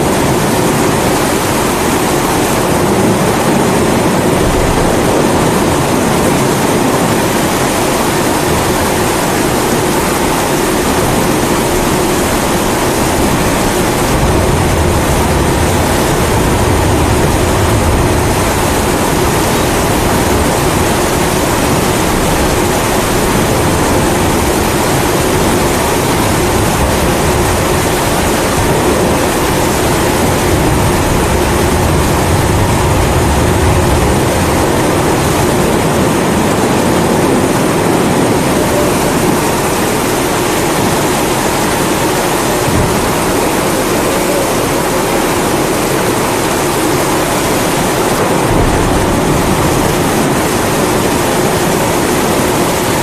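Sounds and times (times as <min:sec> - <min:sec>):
pressure stove hissing roar: 0:00.0 - 0:53.0
rain hissing: 0:00.0 - 0:53.0.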